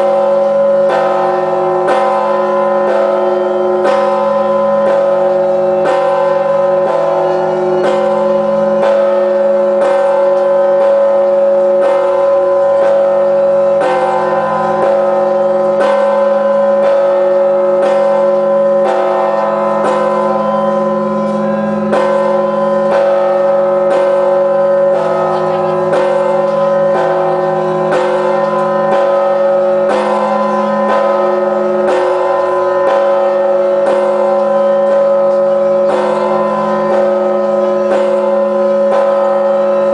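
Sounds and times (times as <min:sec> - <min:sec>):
large church bell tolling: 0:00.0 - 0:39.9.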